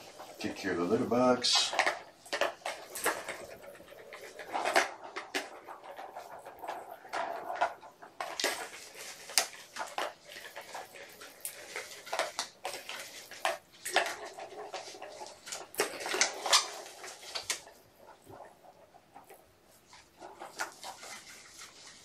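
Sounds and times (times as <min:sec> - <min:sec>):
plastic ball toy clattering: 0:00.0 - 0:22.0.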